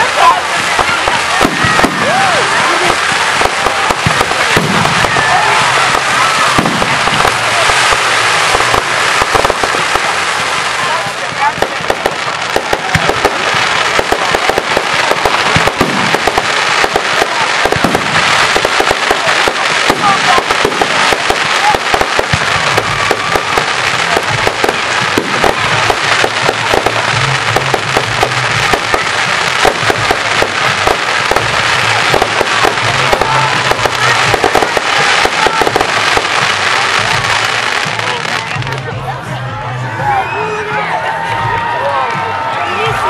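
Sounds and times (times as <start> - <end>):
fireworks crackling and popping: 0.0 - 43.0.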